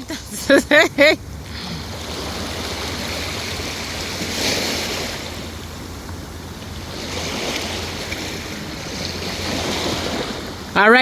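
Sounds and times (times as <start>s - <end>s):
ocean surf breaking on shore: 0.0s - 11.0s
wind rumbling on microphone: 0.0s - 11.0s.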